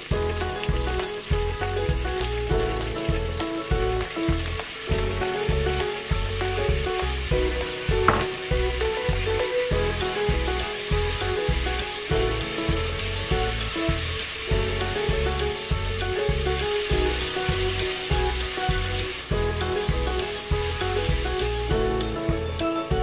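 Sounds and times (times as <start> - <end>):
background music with bass line: 0.0 - 23.0
vegetables sizzling in a wok: 0.0 - 23.0.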